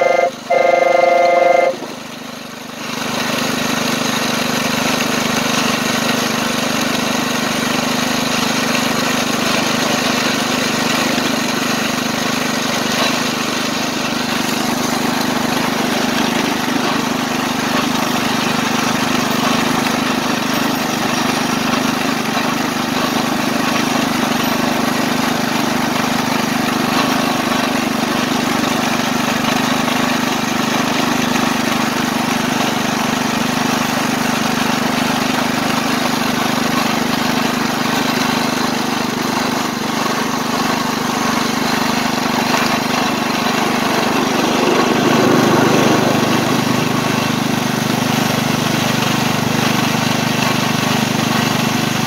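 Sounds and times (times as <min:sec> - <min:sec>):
small locomotive engine running: 0:00.0 - 0:52.0.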